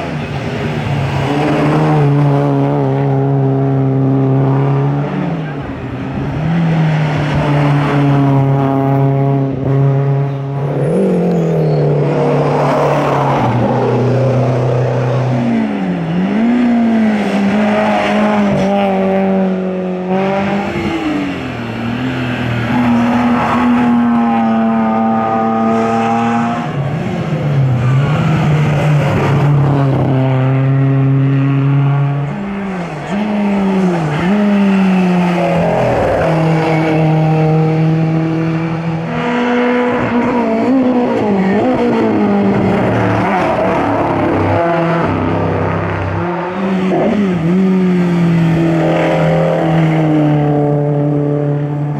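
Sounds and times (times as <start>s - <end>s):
race car engine revving: 0.0s - 51.9s.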